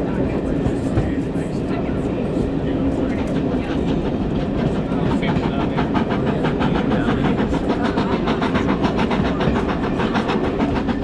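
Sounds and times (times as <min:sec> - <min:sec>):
steam train rumbling: 0:00.0 - 0:11.0.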